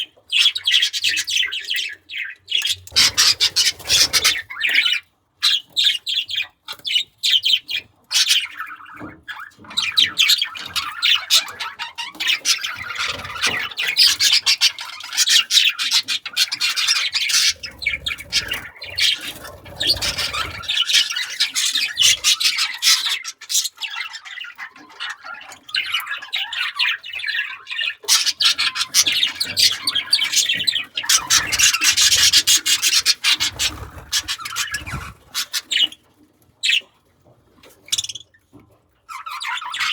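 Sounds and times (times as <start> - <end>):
budgerigars chattering and squawking: 0.0 - 36.0, 36.6 - 36.9, 39.1 - 39.9.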